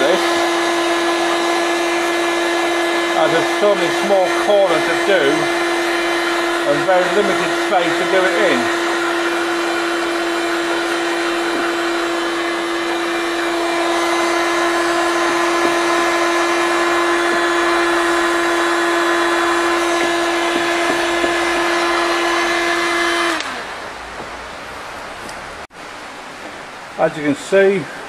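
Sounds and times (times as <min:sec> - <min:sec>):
heat gun fan humming: 0:00.0 - 0:25.4.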